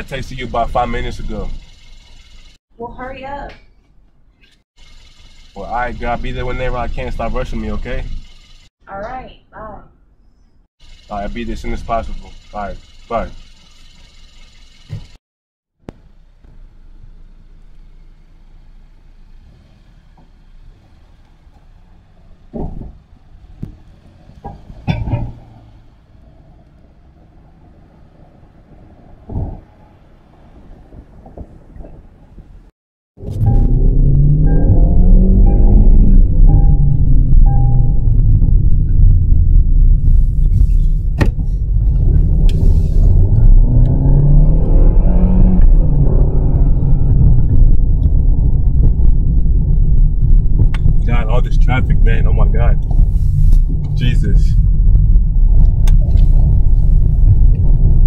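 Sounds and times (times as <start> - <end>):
engine note climbing: 0.0 - 2.6, 4.8 - 8.7, 10.8 - 15.2, 15.8 - 58.0
car low rumble: 0.0 - 8.7, 10.8 - 15.2, 15.8 - 58.0.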